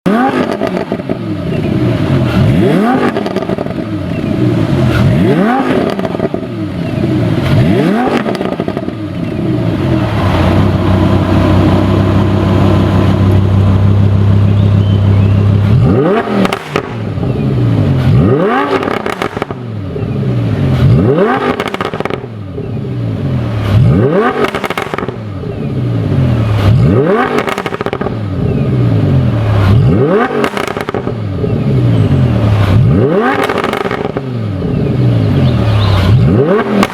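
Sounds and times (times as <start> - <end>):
sports car engine revving: 0.0 - 36.9
exhaust crackles: 0.1 - 36.9.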